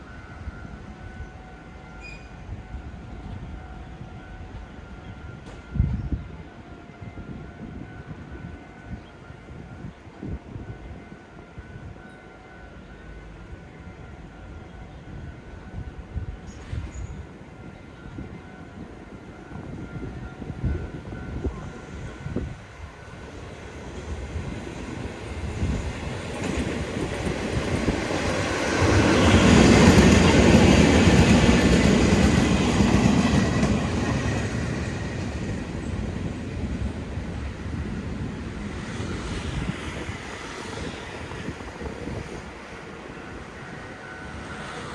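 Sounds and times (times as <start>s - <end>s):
freight train passing: 0.0s - 44.9s.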